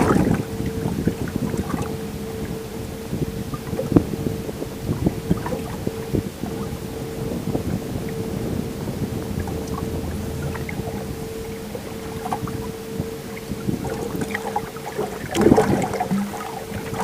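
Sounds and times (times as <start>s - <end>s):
boat motor humming and whining: 0.0s - 17.0s.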